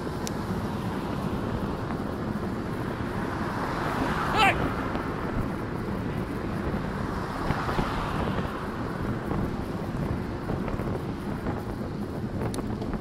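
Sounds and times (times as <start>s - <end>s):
road and traffic rumble: 0.0s - 13.0s
wind on microphone: 0.0s - 13.0s.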